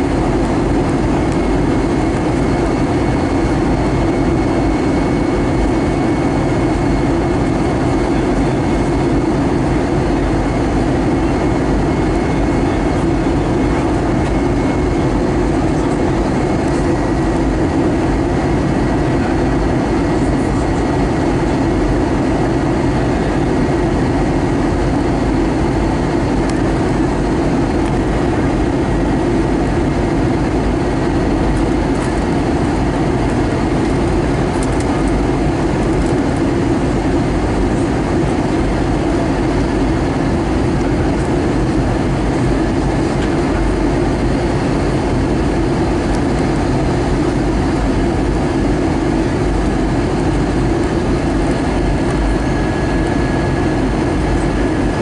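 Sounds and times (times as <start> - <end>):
engine and air rumble: 0.0 - 55.0.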